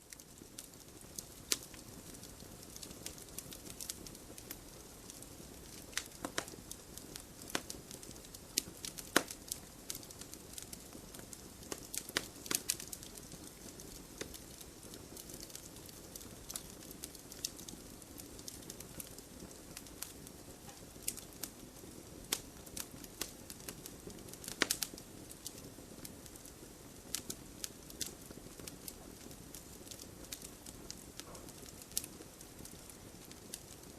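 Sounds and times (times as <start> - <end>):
low hiss of flames: 0.0 - 33.9
wood fire crackling: 0.0 - 33.9.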